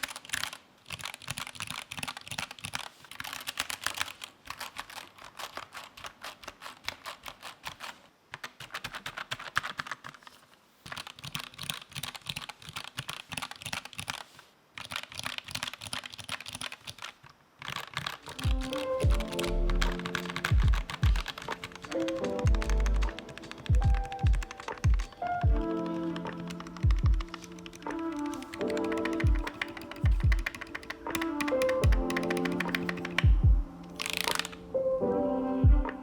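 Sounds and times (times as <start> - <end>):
fast typing on keyboard: 0.0 - 34.6.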